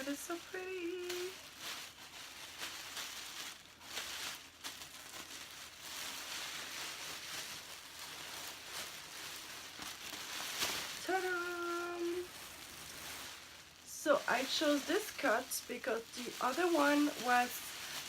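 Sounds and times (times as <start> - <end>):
fabric and packaging crinkling: 0.0 - 18.0.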